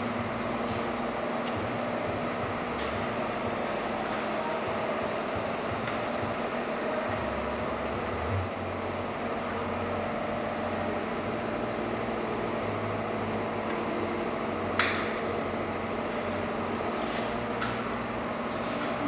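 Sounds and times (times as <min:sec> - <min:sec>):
machine hum and hiss: 0:00.0 - 0:19.0.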